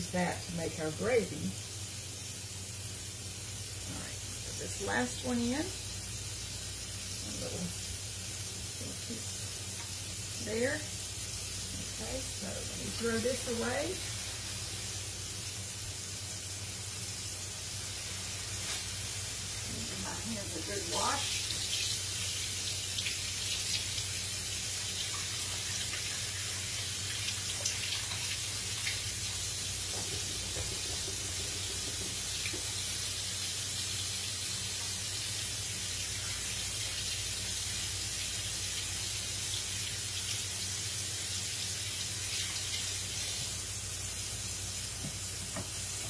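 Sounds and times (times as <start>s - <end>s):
faucet water running: 0.0s - 46.0s.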